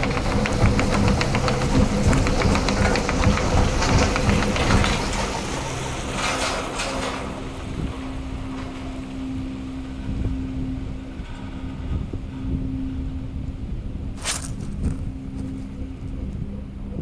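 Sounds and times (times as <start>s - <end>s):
cable car rumbling: 0.0s - 17.0s.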